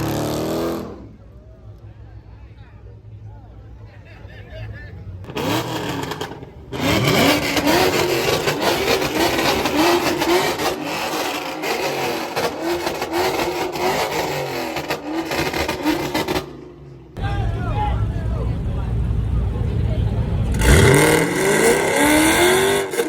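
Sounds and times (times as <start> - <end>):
car engine revving: 0.0 - 1.3, 4.9 - 23.0.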